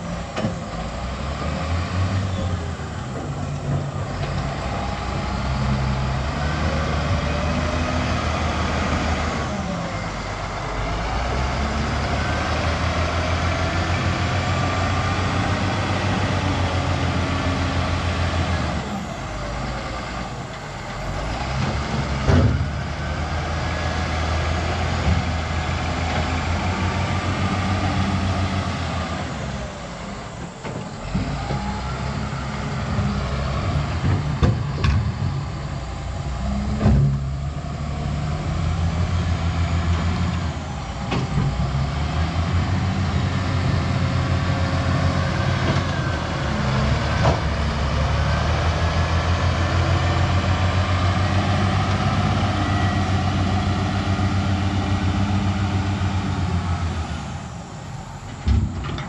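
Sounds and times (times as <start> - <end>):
wheel loader diesel engine: 0.0 - 59.0.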